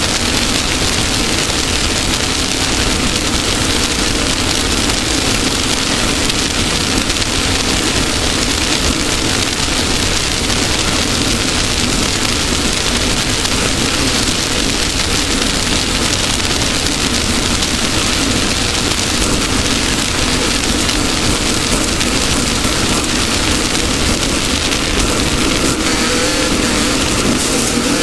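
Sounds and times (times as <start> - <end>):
race car engine drone: 0.0 - 28.0
rushing wind and dirt: 0.0 - 28.0.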